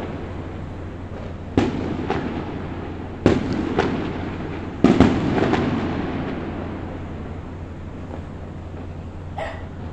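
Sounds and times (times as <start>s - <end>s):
firework cracks: 0.0s - 9.3s
fireworks bangs with echo: 0.0s - 9.9s.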